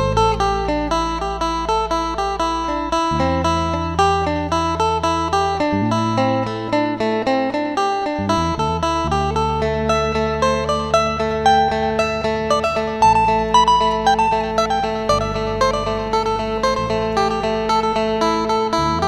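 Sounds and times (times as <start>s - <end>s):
held low bass: 0.0s - 7.3s, 8.0s - 19.0s
plucked lute melody: 0.0s - 19.0s.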